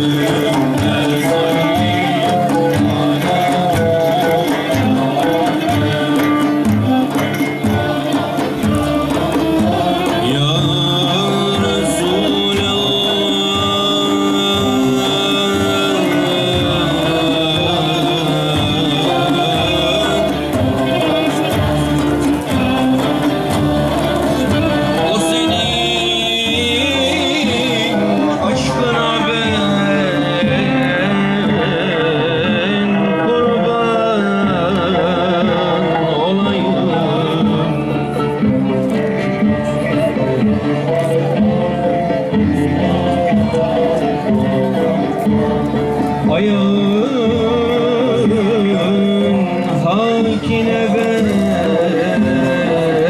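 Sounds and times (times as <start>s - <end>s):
frame drums beating: 0.0s - 53.0s
long-necked lute playing: 0.0s - 53.0s
men's choir singing a hymn: 0.0s - 53.0s
ornamented violin melody: 0.0s - 53.0s
sustained accompaniment: 0.0s - 53.0s.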